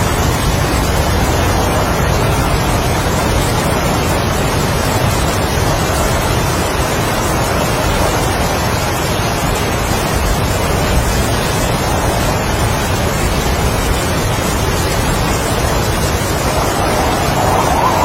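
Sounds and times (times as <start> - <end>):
heavy rain: 0.0 - 18.0
strong wind: 0.0 - 18.0.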